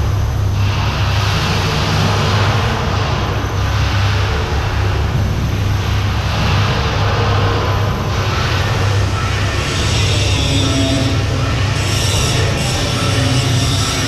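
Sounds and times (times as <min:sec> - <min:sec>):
engine-room machinery droning: 0:00.0 - 0:14.0.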